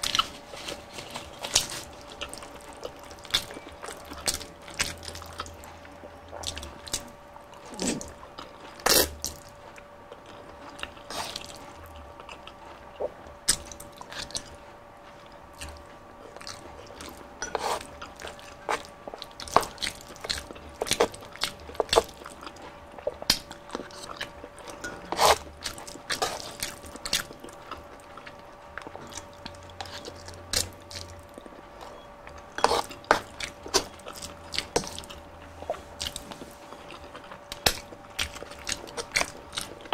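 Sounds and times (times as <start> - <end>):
chewing and wet mouth sounds: 0.0 - 39.9.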